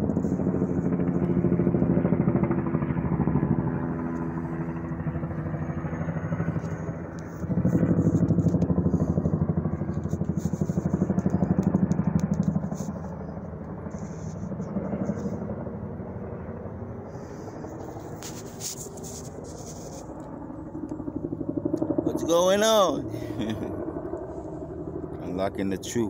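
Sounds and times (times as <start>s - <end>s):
helicopter rotor beating: 0.0s - 26.0s.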